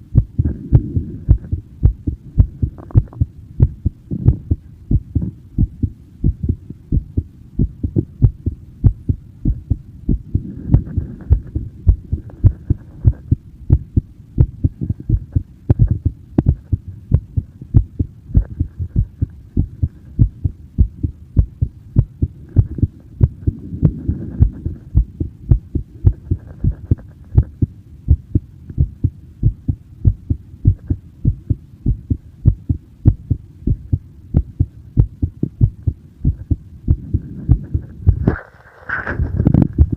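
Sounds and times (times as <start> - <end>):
heartbeat thumps: 0.0 - 38.4, 39.3 - 39.9.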